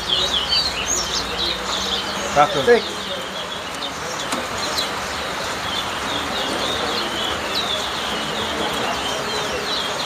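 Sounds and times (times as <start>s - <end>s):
background hubbub: 0.0s - 10.0s.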